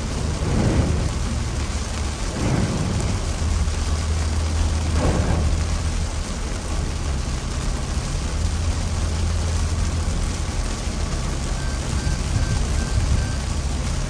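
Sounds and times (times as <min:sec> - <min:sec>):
car driving on wet road: 0:00.0 - 0:14.0
heavy rain on a car: 0:00.0 - 0:14.0.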